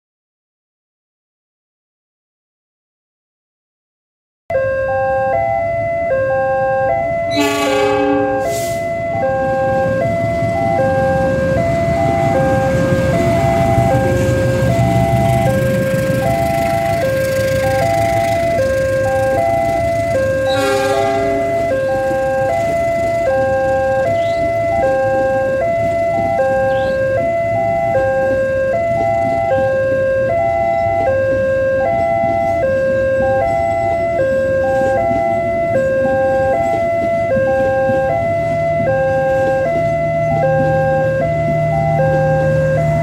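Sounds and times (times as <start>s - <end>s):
train coaches rumbling: 7.3s - 43.0s.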